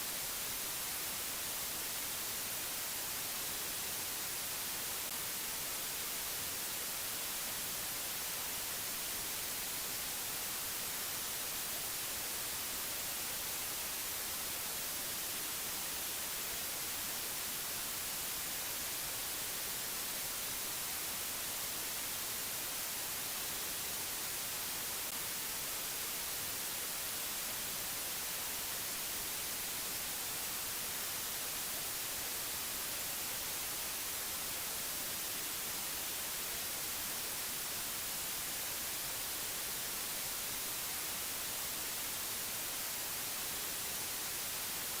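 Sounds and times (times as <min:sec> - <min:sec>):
static hiss: 0:00.0 - 0:45.0.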